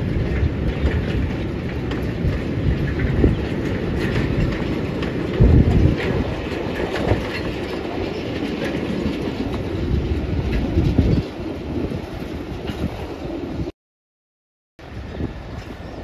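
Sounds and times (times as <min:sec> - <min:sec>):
train wheels rumbling on track: 0:00.0 - 0:13.7, 0:14.8 - 0:16.0.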